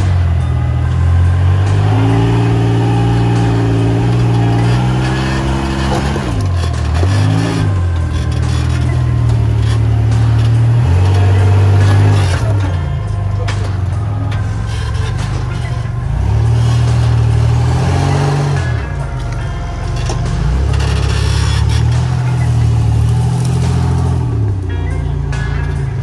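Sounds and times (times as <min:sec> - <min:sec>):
buggy engine revving under load: 0:00.0 - 0:26.0.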